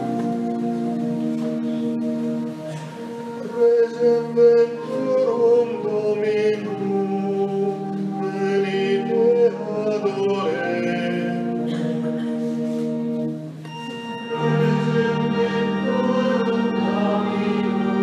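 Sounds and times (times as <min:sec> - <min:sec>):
choir singing: 0:00.0 - 0:12.2, 0:13.8 - 0:18.0
organ chords: 0:00.0 - 0:18.0.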